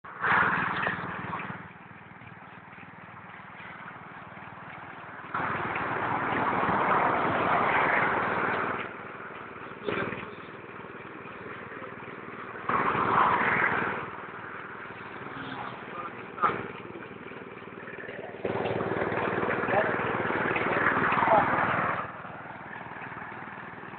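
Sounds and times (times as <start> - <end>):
small gasoline engine running: 0.1 - 23.9.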